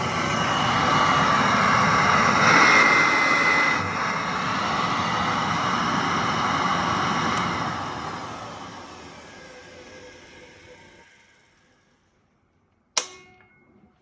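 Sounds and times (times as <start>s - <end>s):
vacuum cleaner running: 0.0s - 12.3s.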